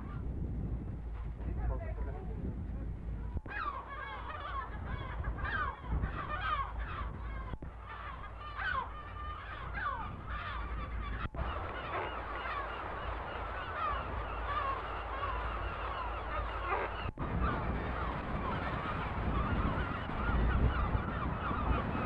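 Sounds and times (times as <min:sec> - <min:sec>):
seabirds crying harshly: 0:03.3 - 0:22.0.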